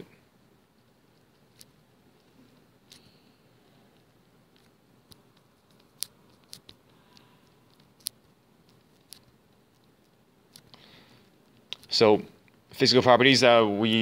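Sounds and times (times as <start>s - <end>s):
low hiss: 0.0s - 14.0s.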